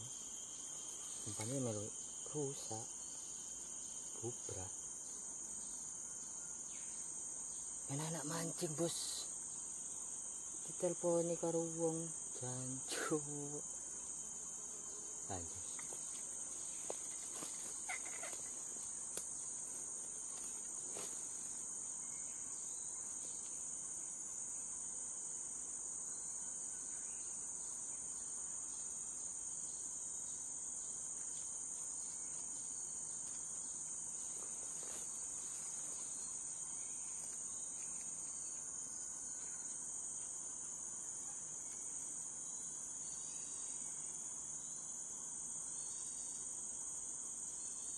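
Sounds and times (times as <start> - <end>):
insect chorus drone: 0.0 - 47.9.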